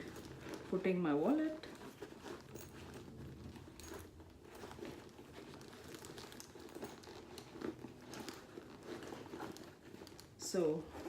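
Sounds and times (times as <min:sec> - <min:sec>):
leather rustling: 0:00.0 - 0:11.0.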